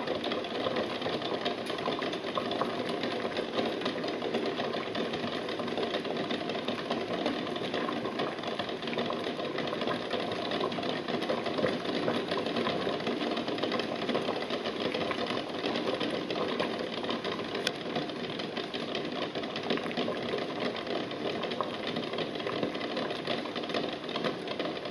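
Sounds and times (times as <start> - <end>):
water boiling in pot: 0.0 - 24.9.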